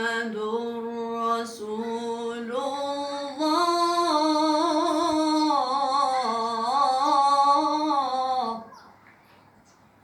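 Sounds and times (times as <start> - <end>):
woman chanting melodic recitation: 0.0 - 9.0.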